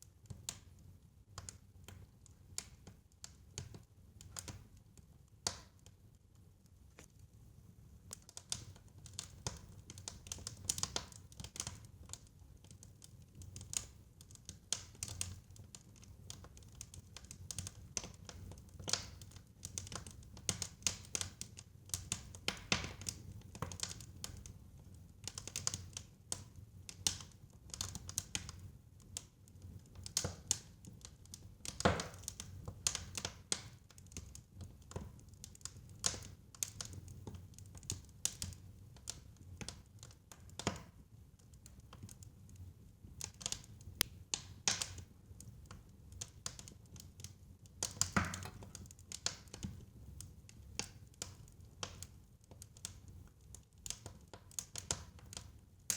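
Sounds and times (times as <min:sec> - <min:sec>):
fireplace fire crackling: 0:00.0 - 0:55.9.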